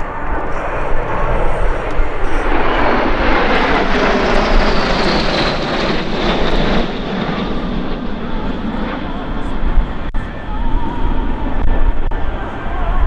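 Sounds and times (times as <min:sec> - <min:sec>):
jet roar with high whine: 0:00.0 - 0:13.0.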